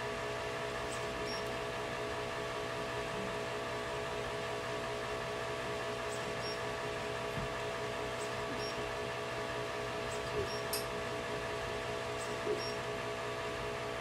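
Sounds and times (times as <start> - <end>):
fans humming and hissing: 0.0 - 14.0.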